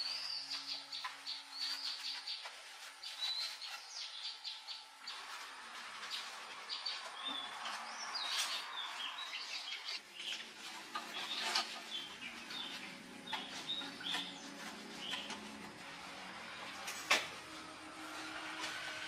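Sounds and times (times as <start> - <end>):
small birds chirping: 0.0 - 15.8.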